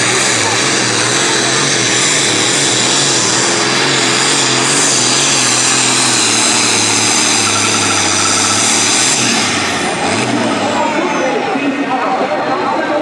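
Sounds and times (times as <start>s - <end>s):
diesel engine running flat out: 0.0s - 13.0s
turbocharger whine: 0.0s - 13.0s.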